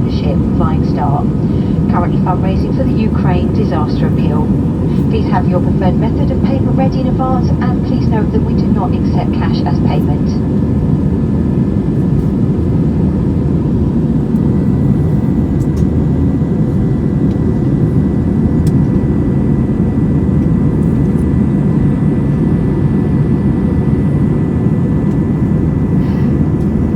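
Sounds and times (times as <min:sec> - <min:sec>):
airliner cabin engine rumble: 0:00.0 - 0:26.9
faint steady whines: 0:00.0 - 0:26.9.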